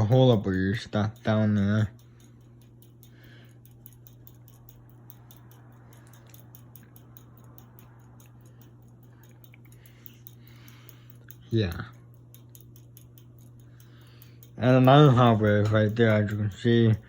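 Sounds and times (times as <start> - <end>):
ceiling fan motor hum: 0.0 - 17.0
faint regular ticking: 0.0 - 17.0.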